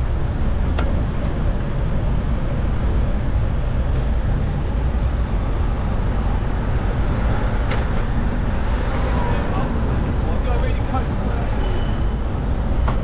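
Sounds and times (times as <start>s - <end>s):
road traffic: 0.0s - 13.0s
wind rumble on microphone: 0.0s - 13.0s.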